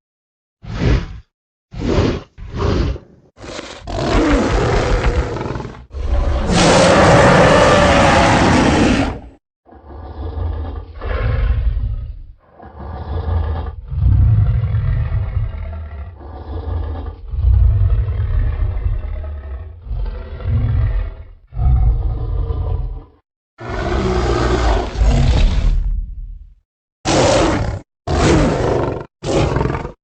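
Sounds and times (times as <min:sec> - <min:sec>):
giant ape roaring: 0:01.8 - 0:26.0, 0:27.1 - 0:30.0.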